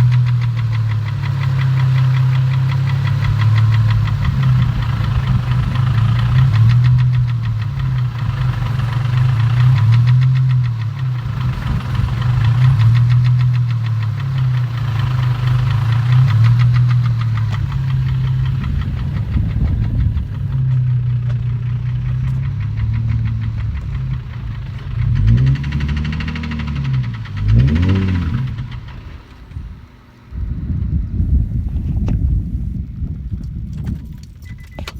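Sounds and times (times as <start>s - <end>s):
rapid engine knock: 0.0s - 30.2s
engine revving: 0.0s - 31.2s
car engine idling unevenly: 0.0s - 34.9s.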